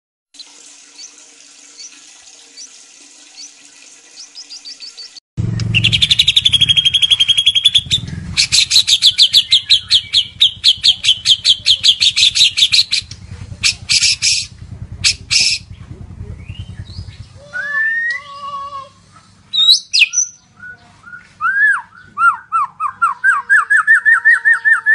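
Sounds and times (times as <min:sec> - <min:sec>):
songbird singing trills: 0:04.2 - 0:24.9.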